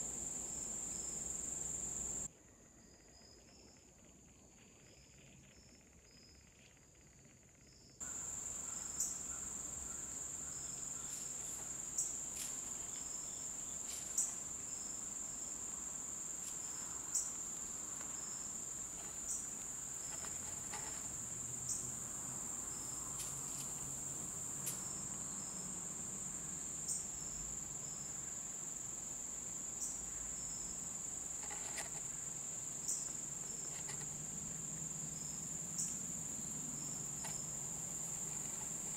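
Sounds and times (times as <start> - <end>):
high-pitched insect chorus: 0.0 - 3.8, 8.0 - 38.9.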